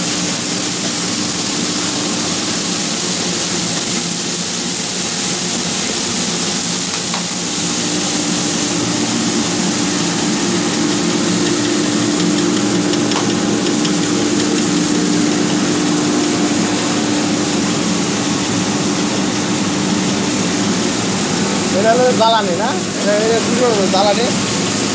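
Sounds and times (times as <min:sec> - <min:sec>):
loud even hiss: 0:00.0 - 0:24.9
machinery humming: 0:00.0 - 0:24.9.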